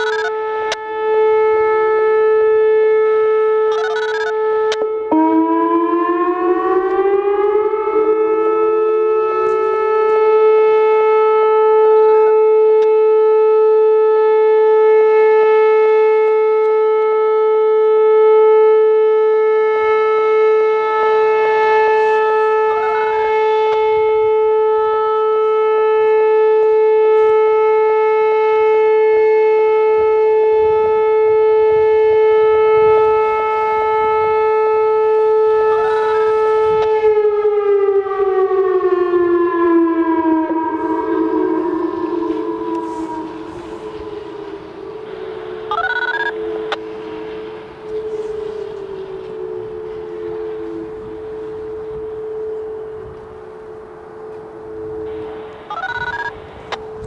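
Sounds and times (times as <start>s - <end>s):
rotating electronic warning siren: 0.0s - 57.0s.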